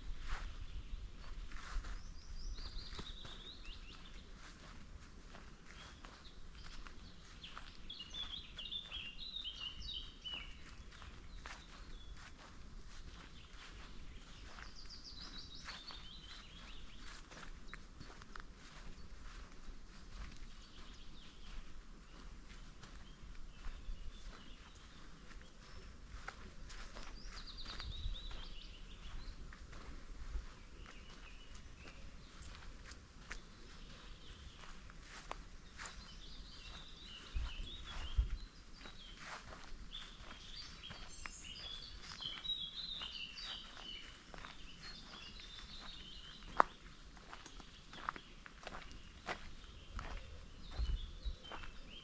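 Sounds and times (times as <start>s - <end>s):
faint birdsong: 0.0s - 52.0s
footsteps on forest path: 0.0s - 52.0s
small songbirds chirping: 0.0s - 52.0s.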